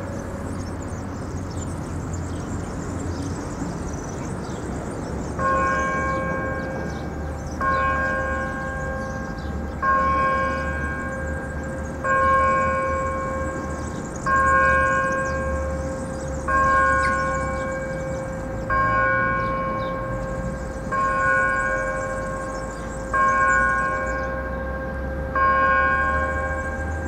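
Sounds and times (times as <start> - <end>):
church bell tolling: 5.3 - 27.0.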